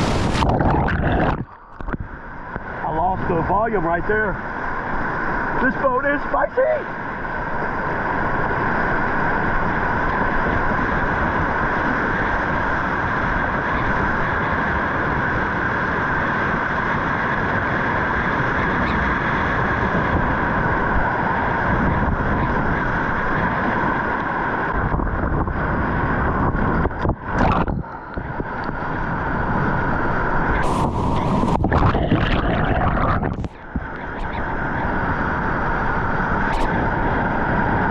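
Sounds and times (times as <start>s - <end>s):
rushing river water: 0.0s - 37.9s.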